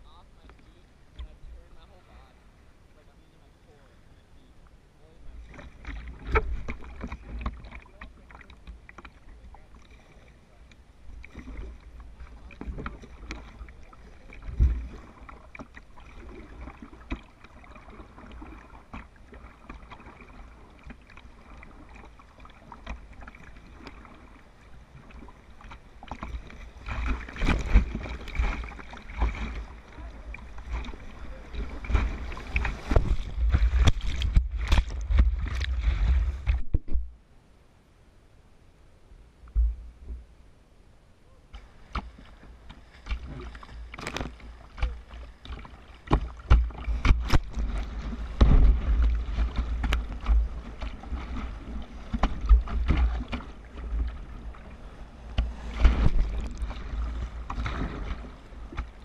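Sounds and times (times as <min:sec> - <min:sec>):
water slapping kayak hull: 0:00.0 - 0:03.3, 0:03.9 - 0:37.2, 0:41.4 - 0:59.0
paddle blades splashing: 0:00.0 - 0:37.1, 0:41.3 - 0:59.0.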